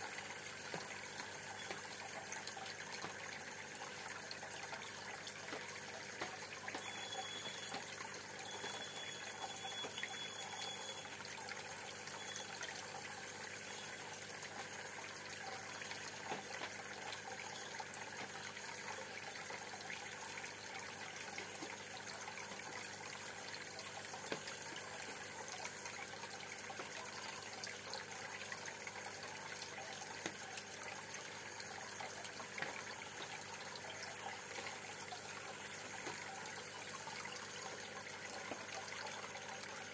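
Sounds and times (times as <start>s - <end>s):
water bubbling in aquarium: 0.0s - 39.9s.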